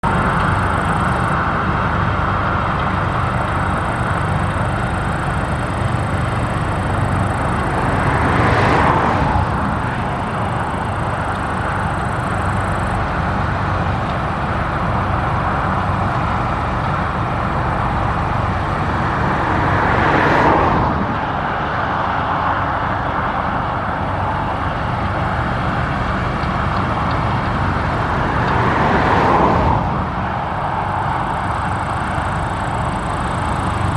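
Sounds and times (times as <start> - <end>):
combine harvester drone: 0.0 - 33.9.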